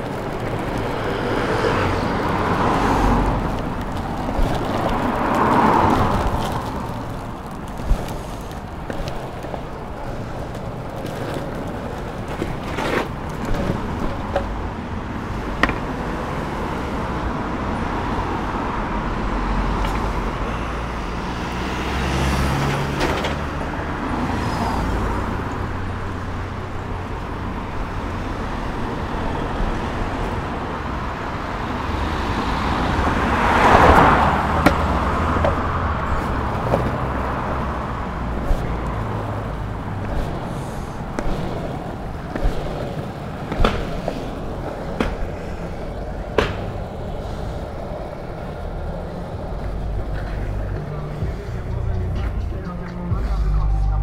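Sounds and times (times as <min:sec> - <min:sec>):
city road traffic: 0:00.0 - 0:54.0
longboard wheels rolling on pavement: 0:00.0 - 0:54.0.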